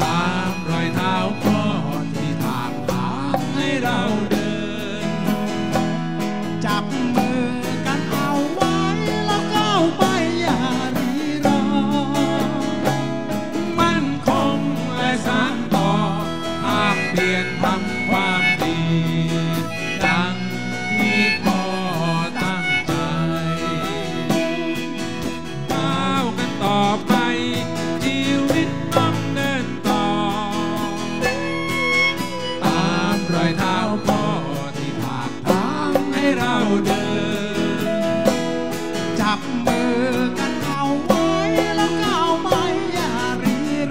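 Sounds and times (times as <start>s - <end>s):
congas and bongos: 0.0s - 43.9s
electric band playing: 0.0s - 43.9s.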